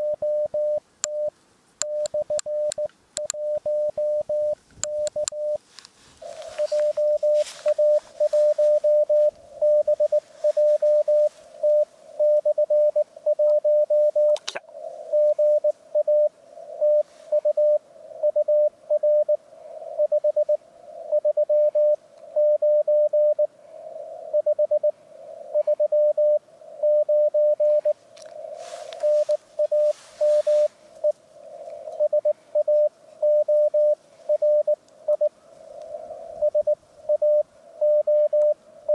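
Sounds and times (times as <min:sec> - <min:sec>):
morse code tone: 0:00.0 - 0:05.6, 0:06.2 - 0:14.4, 0:15.1 - 0:19.4, 0:20.0 - 0:23.5, 0:25.6 - 0:28.0, 0:29.0 - 0:31.2, 0:32.0 - 0:35.3, 0:36.4 - 0:38.9
radio hiss: 0:00.0 - 0:38.9.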